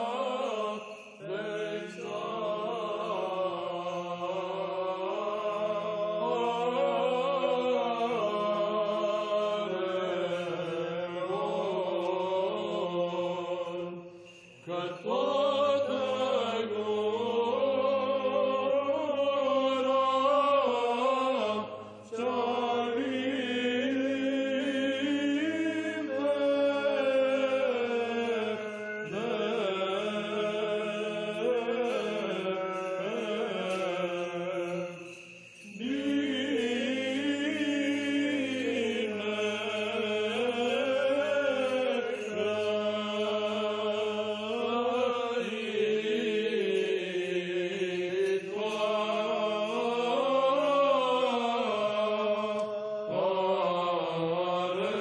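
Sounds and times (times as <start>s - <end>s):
voices chanting ornamented melody: 0.0s - 55.0s.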